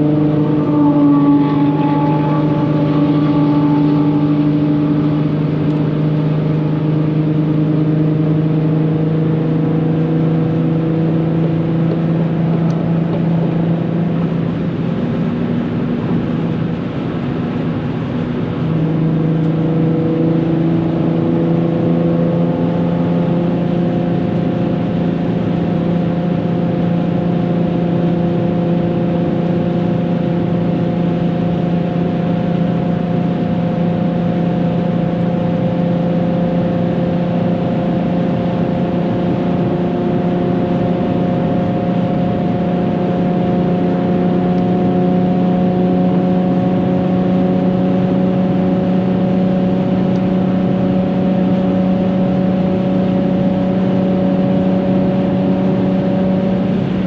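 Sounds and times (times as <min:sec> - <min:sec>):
car engine at speed from cabin: 0:00.0 - 0:57.0.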